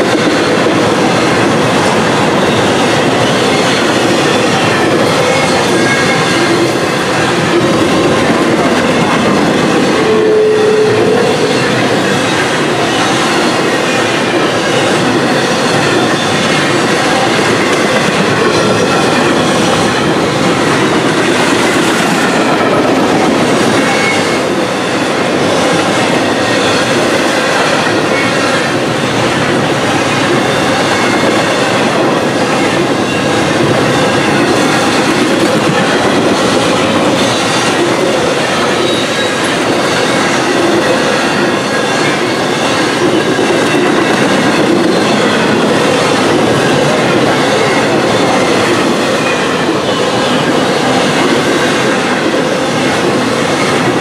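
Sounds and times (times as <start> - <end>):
train wheel squeals: 0.0 - 54.0
train wheels clattering on rails: 0.0 - 54.0.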